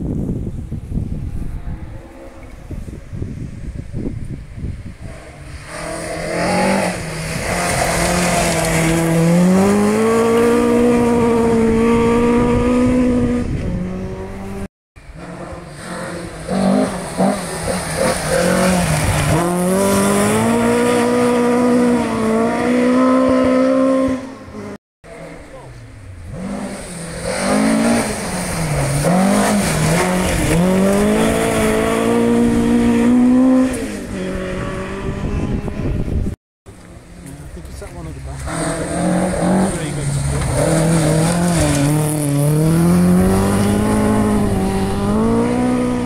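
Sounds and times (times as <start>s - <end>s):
rally car engine revving: 5.0s - 36.4s, 37.0s - 46.0s.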